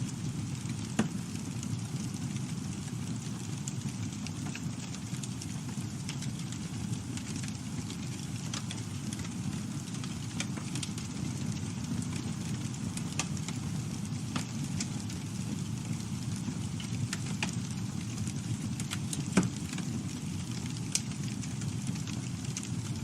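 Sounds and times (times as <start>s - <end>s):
burning wood crackling and popping: 0.0s - 23.0s
flames rushing: 0.1s - 23.0s.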